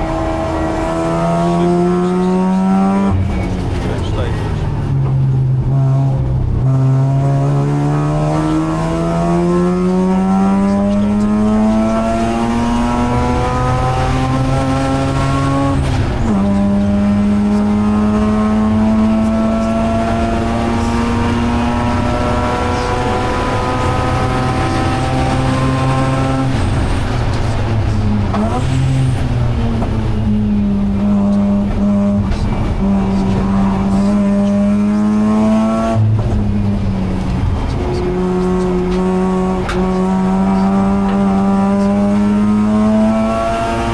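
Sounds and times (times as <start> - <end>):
rotary race car engine revving: 0.0 - 43.9.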